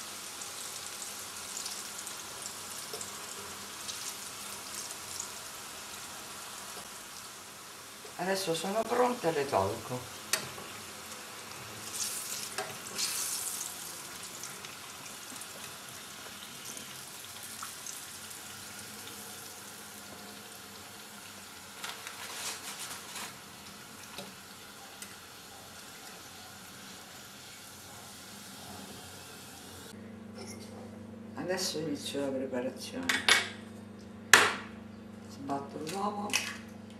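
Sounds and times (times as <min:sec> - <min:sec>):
eggplant frying in oil: 0:00.0 - 0:30.0.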